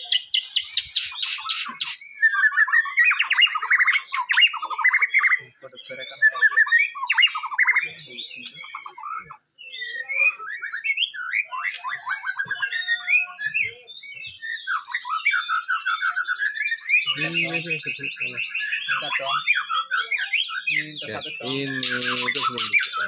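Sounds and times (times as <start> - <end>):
bird singing whistled phrases: 0.0 - 23.0.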